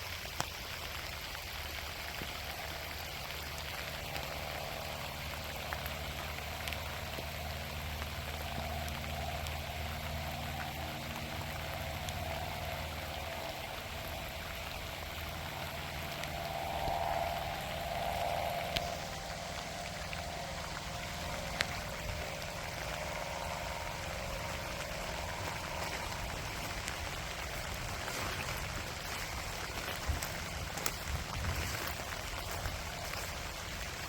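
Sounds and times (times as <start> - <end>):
light rain patter: 0.0 - 34.0
low steady hum: 0.0 - 34.0.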